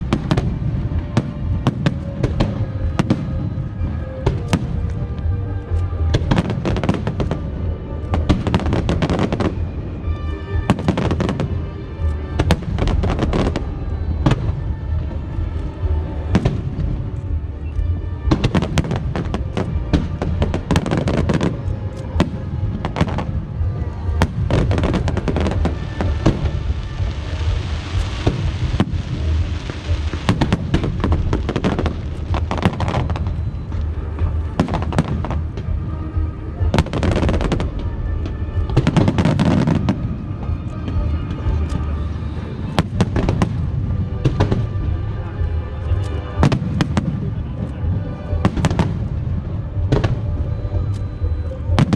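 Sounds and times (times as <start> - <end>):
fireworks bangs and booms: 0.0 - 51.9
fireworks hissing crackle: 0.0 - 51.9
music playing: 0.0 - 51.9.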